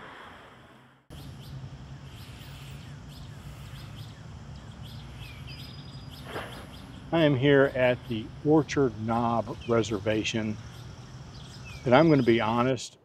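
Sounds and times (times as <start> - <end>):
birds chirping and whistling: 1.1 - 12.7
low steady hum: 1.1 - 13.0.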